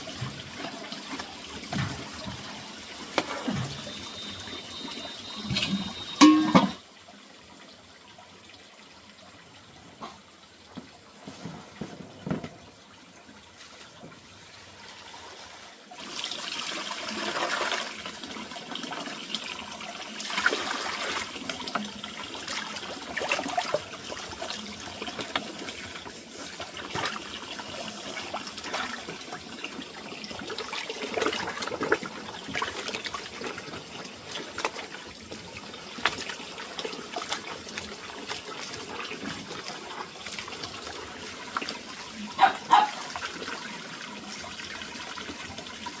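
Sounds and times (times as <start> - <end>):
running water: 0.0 - 46.0.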